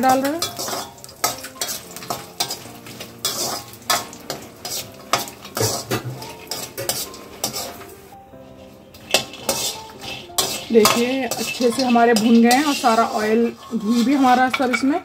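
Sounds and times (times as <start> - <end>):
light sizzle: 0.0 - 15.0
metal spoon scraping pan: 0.0 - 15.0.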